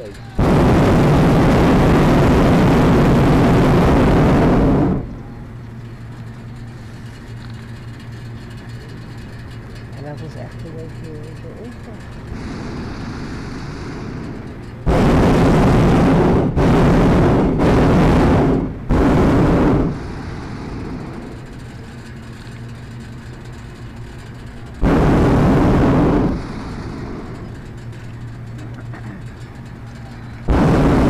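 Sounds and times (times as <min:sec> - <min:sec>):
propane burner blasts: 0:00.0 - 0:31.0.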